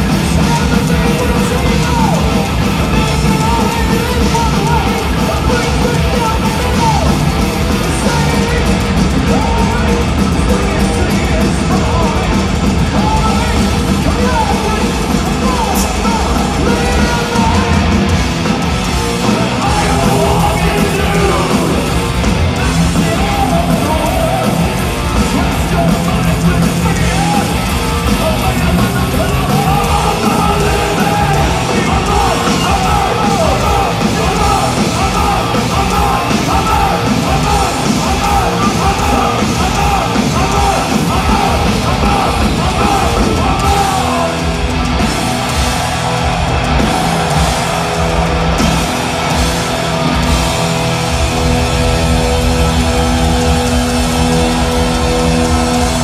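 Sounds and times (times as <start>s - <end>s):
bass guitar: 0.0s - 56.0s
distorted electric guitars: 0.0s - 56.0s
pounding drums: 0.0s - 56.0s
yelled vocals: 0.0s - 56.0s.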